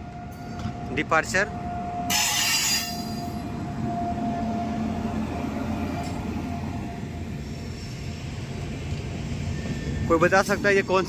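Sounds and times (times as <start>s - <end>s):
locomotive whine: 0.0s - 11.0s
train wheels rumbling on rails: 0.0s - 11.0s.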